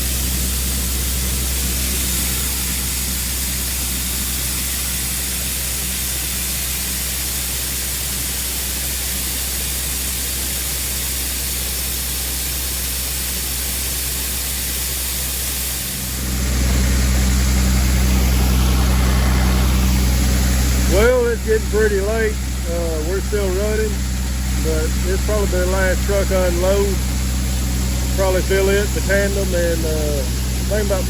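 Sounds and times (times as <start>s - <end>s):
loud even hissing rush: 0.0s - 31.0s
machinery engine running: 0.0s - 31.0s.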